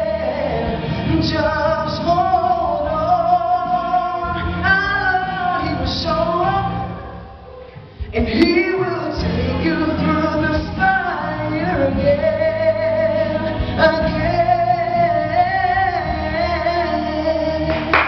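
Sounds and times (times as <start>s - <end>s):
backing track: 0.0s - 18.0s
person singing gospel ballad: 0.0s - 18.0s.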